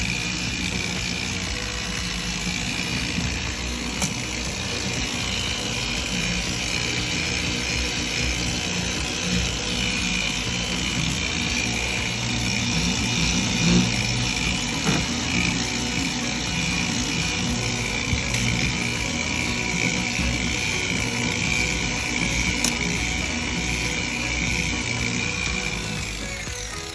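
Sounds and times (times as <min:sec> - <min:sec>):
power tool motor whining: 0:00.0 - 0:26.9.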